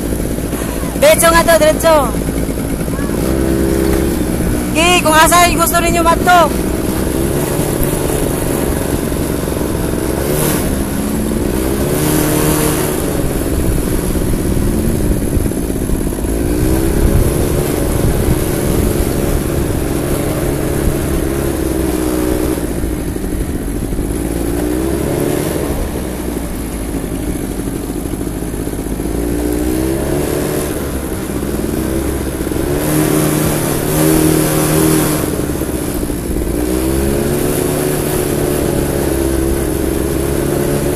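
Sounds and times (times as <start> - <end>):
quad bike engines revving: 0.0 - 40.9.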